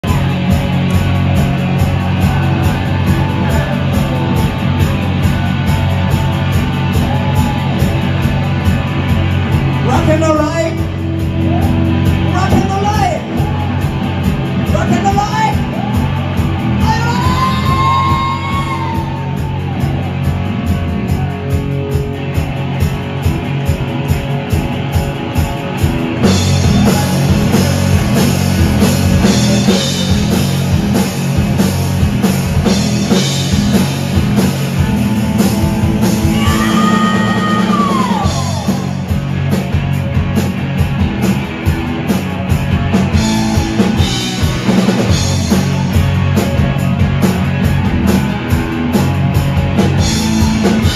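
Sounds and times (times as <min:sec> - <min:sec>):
drum kit: 0:00.0 - 0:50.9
electric guitars: 0:00.0 - 0:50.9.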